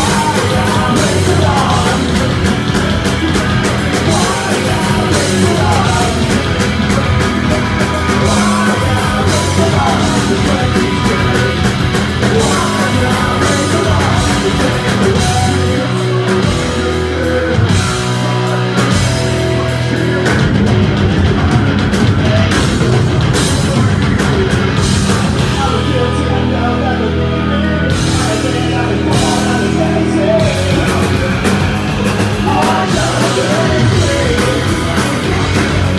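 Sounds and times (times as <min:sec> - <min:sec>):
bass guitar: 0:00.0 - 0:35.9
distorted electric guitars: 0:00.0 - 0:35.9
drum kit: 0:00.0 - 0:35.9
person singing: 0:00.0 - 0:35.9.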